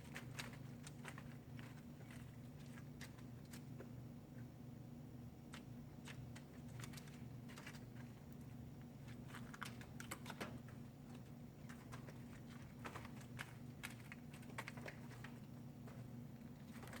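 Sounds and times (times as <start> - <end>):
chickens pecking: 0.0 - 4.5, 5.4 - 17.0
steady low hum: 0.0 - 17.0.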